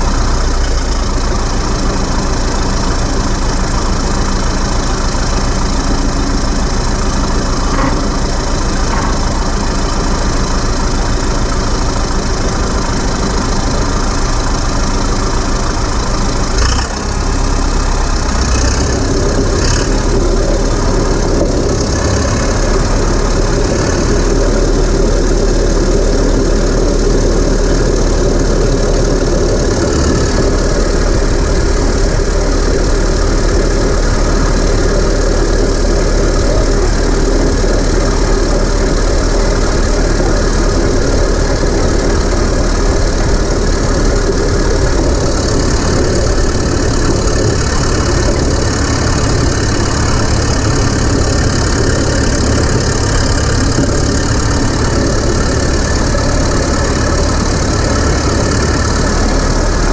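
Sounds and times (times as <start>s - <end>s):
dozer diesel engine running: 0.0s - 59.9s.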